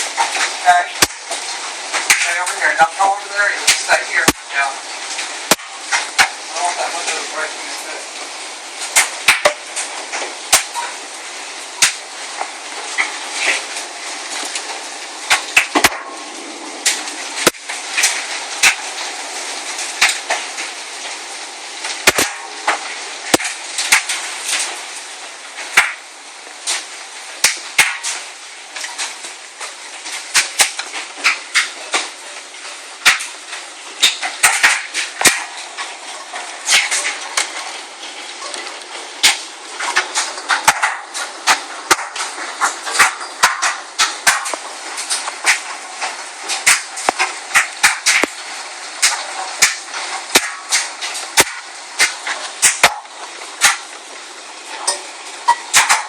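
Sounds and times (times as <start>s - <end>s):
hail and rain hissing: 0.0s - 56.0s
hailstones cracking and knocking: 0.0s - 56.0s.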